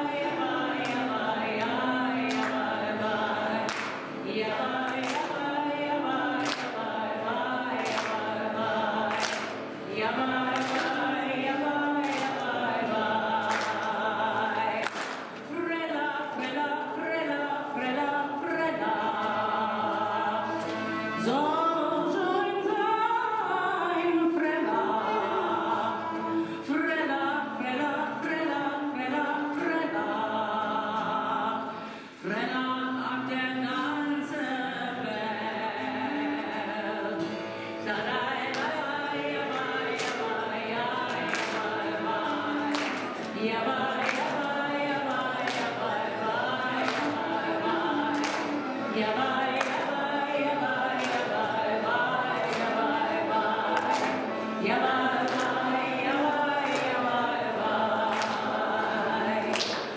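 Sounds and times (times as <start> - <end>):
woman singing: 0.0 - 59.9.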